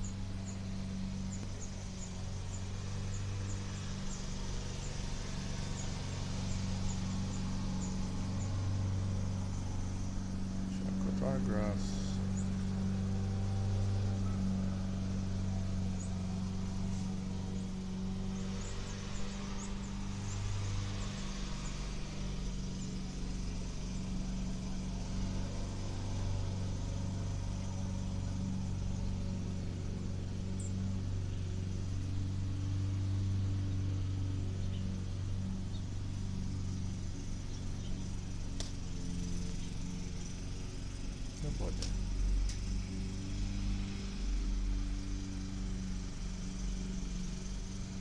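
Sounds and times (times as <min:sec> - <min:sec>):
motor humming: 0:00.0 - 0:48.0.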